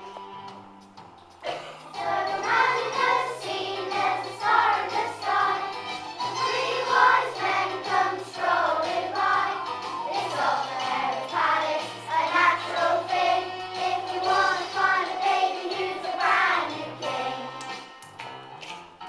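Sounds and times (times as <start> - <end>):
musical backing with bass: 0.0 - 19.0
children's choir singing: 1.4 - 17.8.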